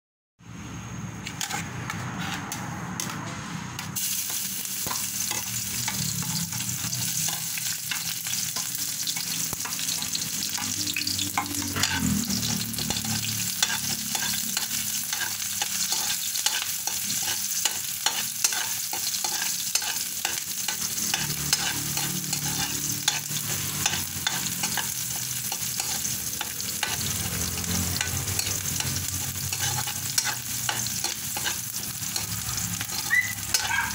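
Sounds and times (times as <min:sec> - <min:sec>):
metal ladle scraping wok: 0:01.2 - 0:33.9
onion sizzling in hot oil: 0:03.8 - 0:33.9.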